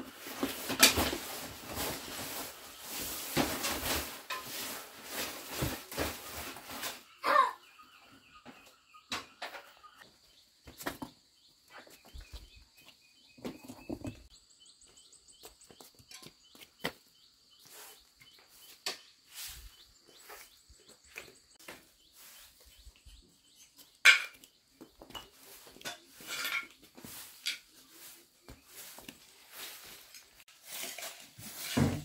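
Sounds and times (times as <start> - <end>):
broom sweeping dirt floor: 0.0 - 9.0, 9.9 - 32.0
small birds chirping: 4.5 - 30.5.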